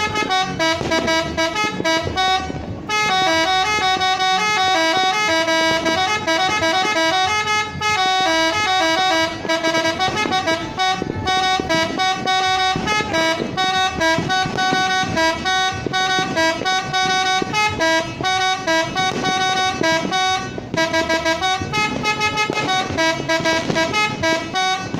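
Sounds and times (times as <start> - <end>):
musical air horn fast tune: 0.0 - 24.9.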